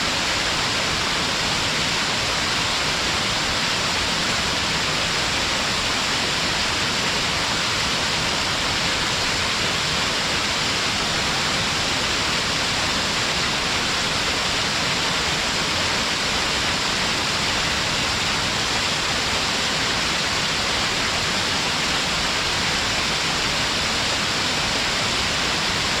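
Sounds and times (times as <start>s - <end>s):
waterfall over rock ledges: 0.0s - 26.0s.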